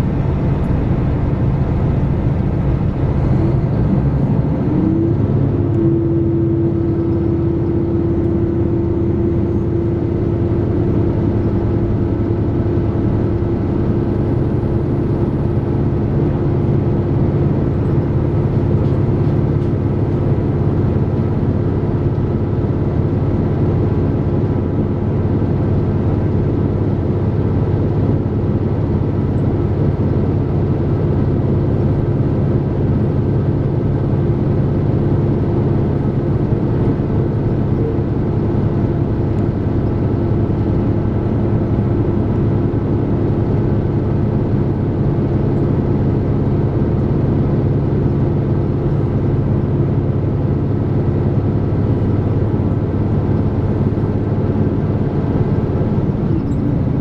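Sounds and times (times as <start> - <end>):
constant hum tones: 0.0 - 57.0
diesel train drone in cabin: 0.0 - 57.0.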